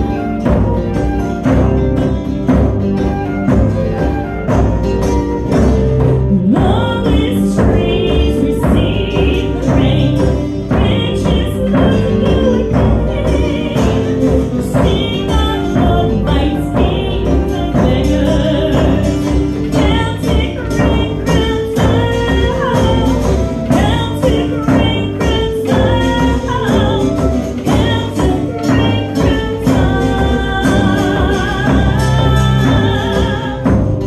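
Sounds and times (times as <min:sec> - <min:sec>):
strummed acoustic guitar: 0:00.0 - 0:34.0
woman singing: 0:00.0 - 0:34.0.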